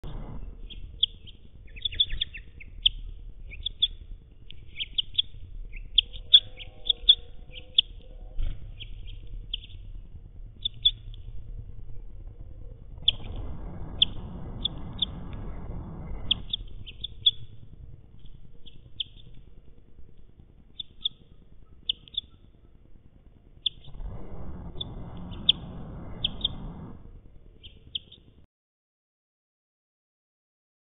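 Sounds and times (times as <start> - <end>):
small songbird chirping: 0.0 - 12.2, 13.0 - 19.8, 20.7 - 22.8, 23.6 - 24.0, 24.7 - 28.4
low rushing noise: 0.0 - 28.5.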